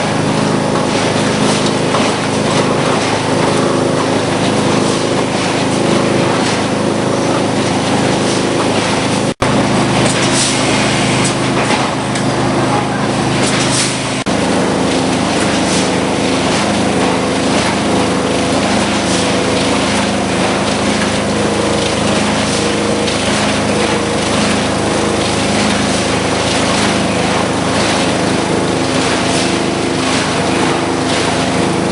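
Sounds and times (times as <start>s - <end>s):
steady machine hum: 0.0s - 31.9s.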